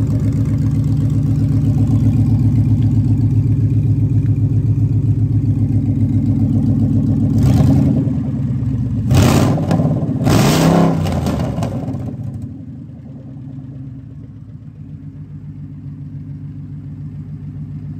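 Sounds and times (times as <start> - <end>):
car engine revving and idling: 0.0 - 17.9.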